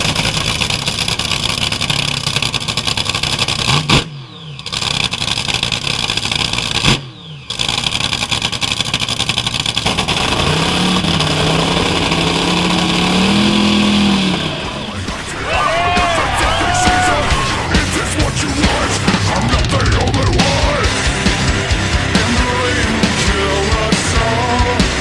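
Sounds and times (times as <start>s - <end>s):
boat engines running loud: 0.0s - 25.0s.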